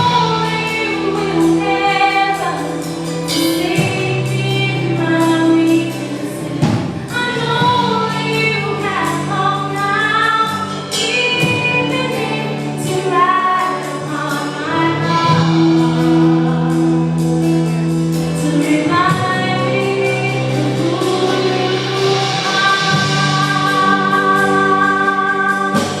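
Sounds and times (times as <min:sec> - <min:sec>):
gospel-style singing: 0:00.0 - 0:26.0.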